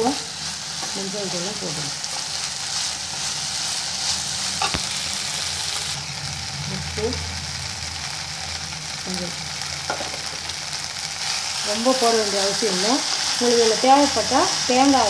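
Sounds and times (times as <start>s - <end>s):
okra sizzling in hot oil: 0.0s - 15.0s.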